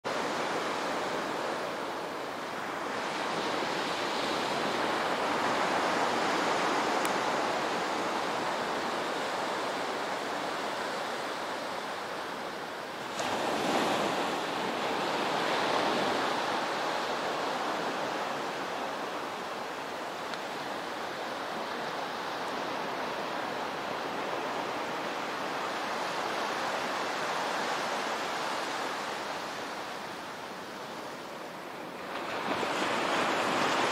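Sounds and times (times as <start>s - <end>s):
small waves washing onto beach: 0.0s - 33.9s.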